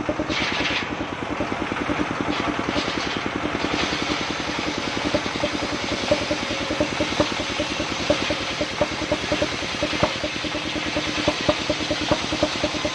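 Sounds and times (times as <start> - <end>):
diesel engine chugging: 0.0 - 12.9.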